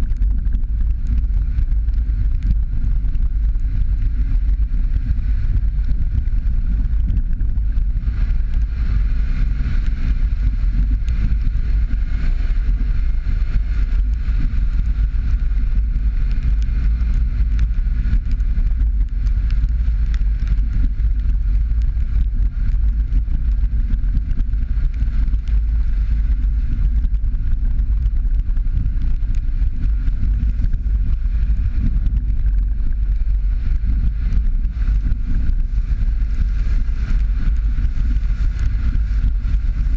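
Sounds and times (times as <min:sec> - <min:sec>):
tyres rumbling on gravel: 0:00.0 - 0:39.9
wind on microphone: 0:00.0 - 0:39.9.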